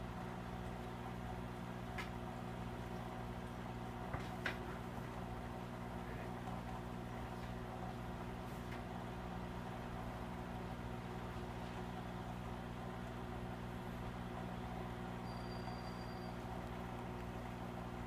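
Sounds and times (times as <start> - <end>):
aquarium pump hum: 0.0 - 18.0.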